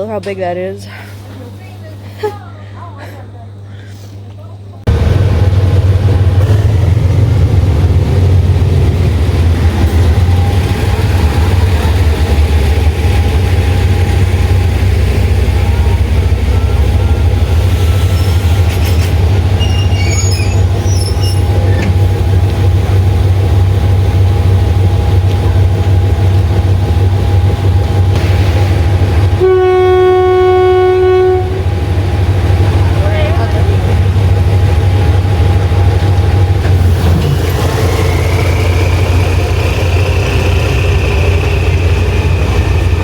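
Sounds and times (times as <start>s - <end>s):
diesel train passing: 4.8s - 43.0s.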